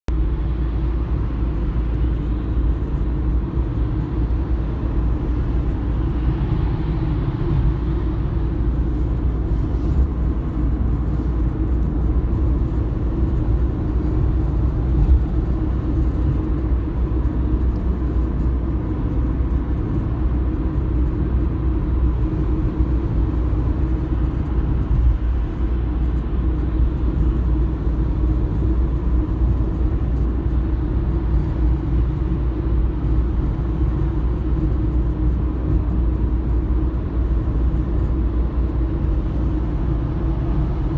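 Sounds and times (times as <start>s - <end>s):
car road and engine rumble: 0.1s - 40.9s.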